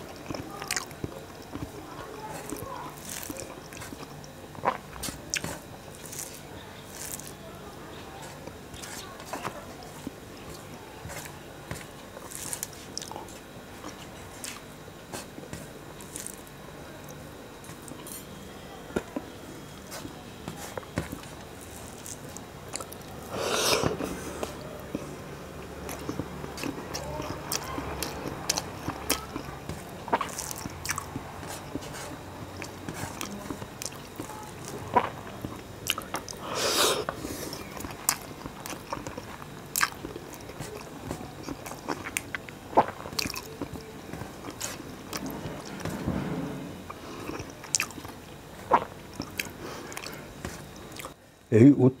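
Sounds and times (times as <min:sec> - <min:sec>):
fingers mixing rice on plate: 0:00.0 - 0:18.3, 0:18.9 - 0:46.0, 0:47.2 - 0:51.0
man chewing food: 0:00.0 - 0:51.2.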